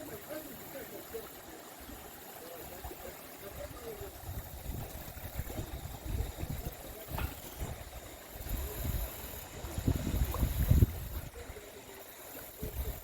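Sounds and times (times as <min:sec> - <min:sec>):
creek water hissing: 0:00.0 - 0:13.0.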